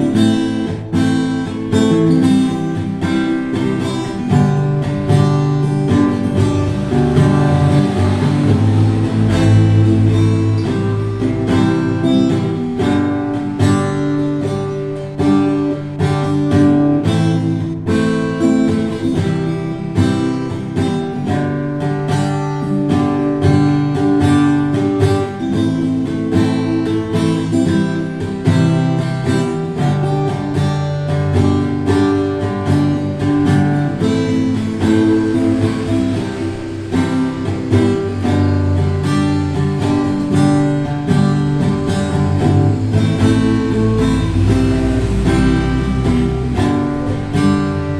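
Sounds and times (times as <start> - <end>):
acoustic guitar playing: 0.0 - 47.9.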